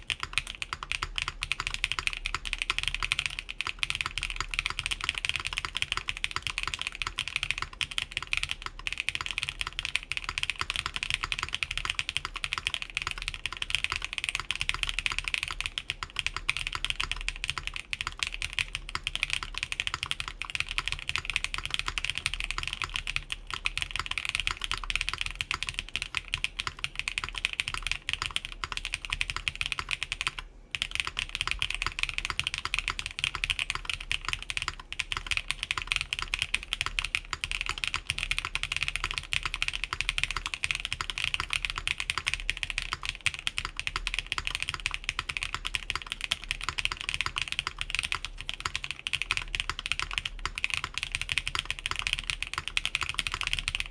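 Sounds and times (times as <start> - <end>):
fast typing on mechanical keyboard: 0.0 - 53.9.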